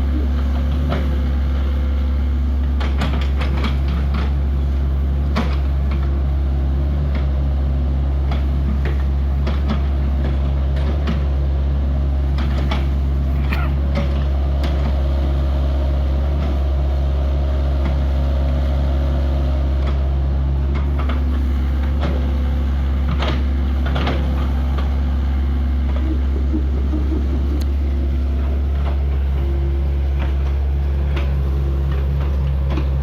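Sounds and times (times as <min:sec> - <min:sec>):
excavator engine humming: 0:00.0 - 0:33.0.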